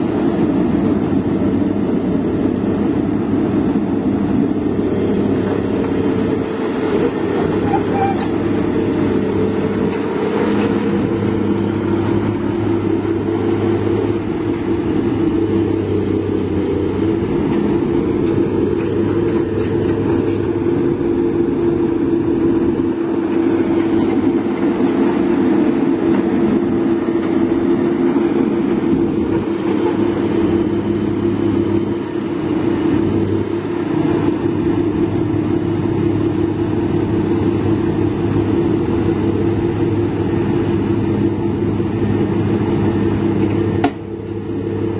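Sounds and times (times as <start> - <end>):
diesel engine drone: 0.0 - 44.9.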